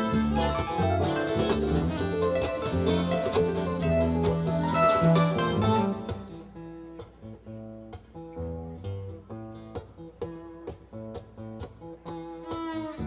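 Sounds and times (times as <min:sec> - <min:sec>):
guitar: 0:00.0 - 0:13.0
live band music: 0:00.0 - 0:13.0.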